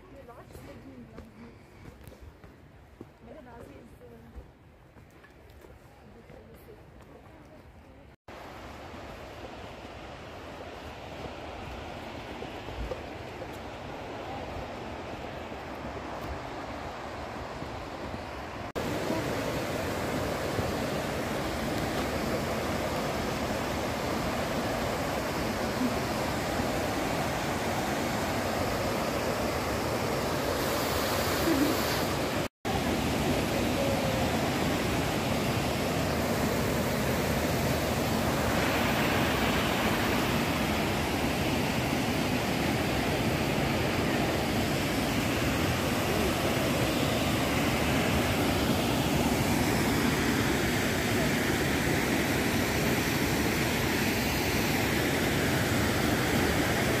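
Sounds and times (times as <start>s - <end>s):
rushing water: 8.3s - 57.0s.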